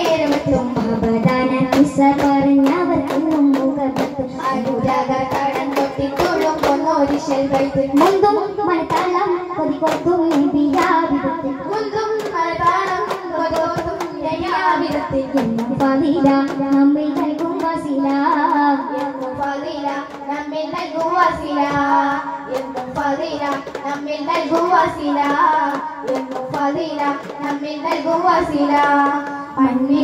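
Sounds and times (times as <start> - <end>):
frame drum strikes: 0.0 - 29.4
boys singing in chorus: 0.0 - 30.0.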